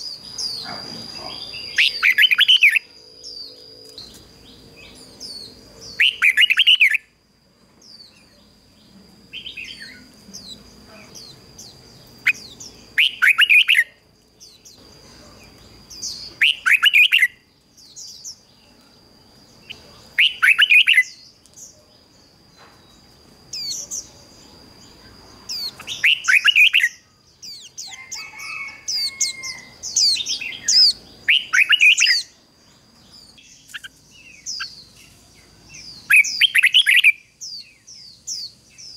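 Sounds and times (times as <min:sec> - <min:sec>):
bird singing warbled phrases: 0:00.0 - 0:07.2, 0:07.8 - 0:22.1, 0:23.5 - 0:38.9
faint high whine: 0:00.0 - 0:38.9.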